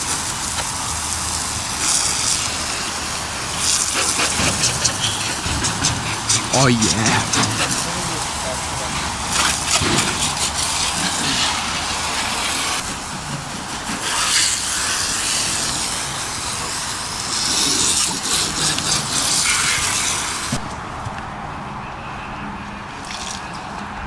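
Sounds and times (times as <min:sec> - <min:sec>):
hose spraying water on car: 0:00.0 - 0:20.7, 0:22.9 - 0:23.8.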